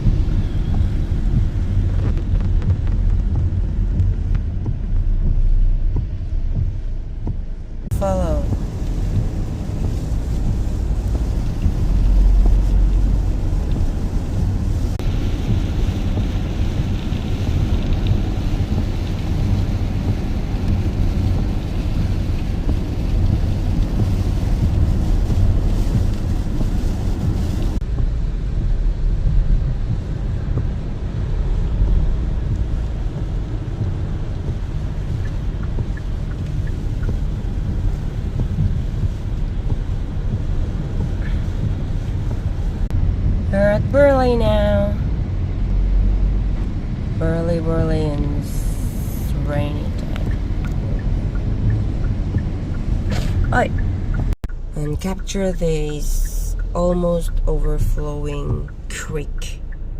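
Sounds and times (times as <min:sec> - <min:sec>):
car road rumble: 0:00.0 - 0:59.9.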